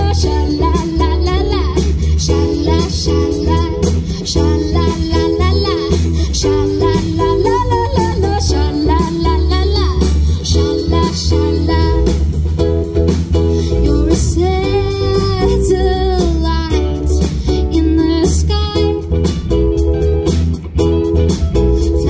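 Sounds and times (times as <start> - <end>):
woman singing: 0.0 - 12.3, 13.5 - 19.3, 21.8 - 22.0
live band playing: 0.0 - 22.0.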